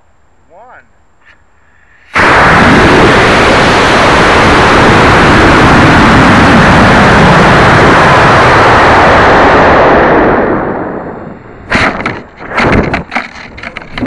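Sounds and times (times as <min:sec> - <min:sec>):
rocket motor roaring: 0:02.1 - 0:14.0.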